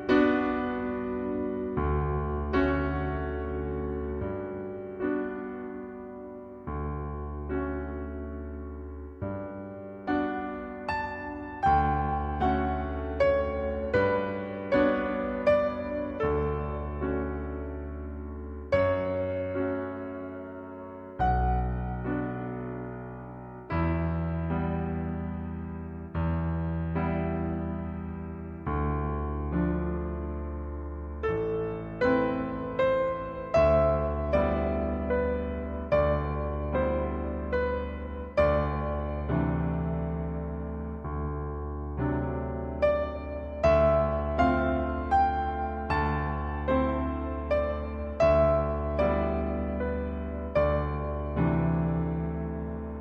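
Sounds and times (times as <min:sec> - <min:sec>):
electric piano chords: 0:00.0 - 0:53.0.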